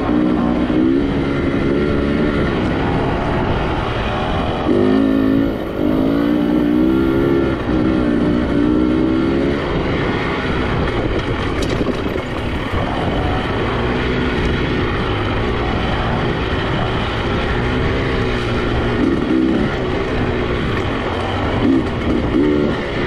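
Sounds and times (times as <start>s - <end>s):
motorcycle engine running: 0.0s - 23.0s
steady rush of noise: 0.0s - 23.0s.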